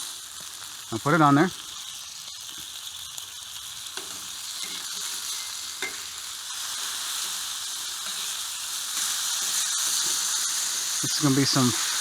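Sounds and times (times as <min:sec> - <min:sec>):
bacon sizzling on a griddle: 0:00.0 - 0:12.0.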